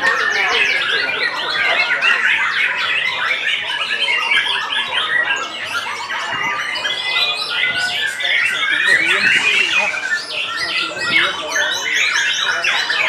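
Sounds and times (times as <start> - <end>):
other birds singing: 0.0 - 13.0
songbird whistling and chattering: 0.0 - 13.0.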